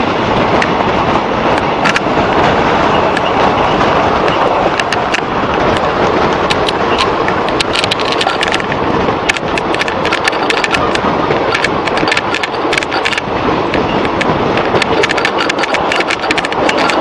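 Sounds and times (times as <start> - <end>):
clicks and rattles of train: 0.0 - 17.0
train wheels rushing on rails: 0.0 - 17.0.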